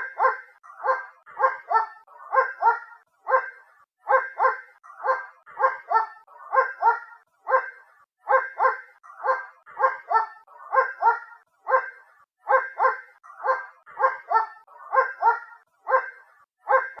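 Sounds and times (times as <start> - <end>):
distant dog barking: 0.0 - 17.0.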